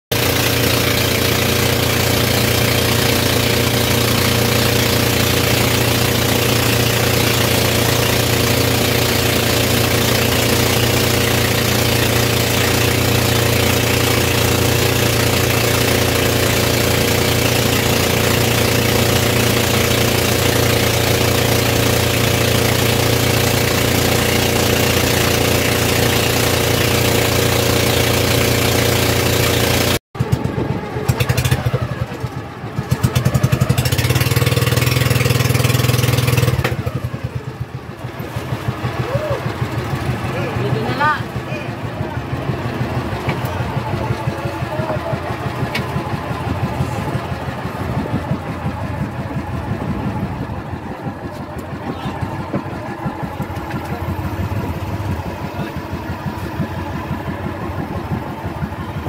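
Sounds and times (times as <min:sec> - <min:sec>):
motor boat engine running: 0:00.1 - 0:59.0.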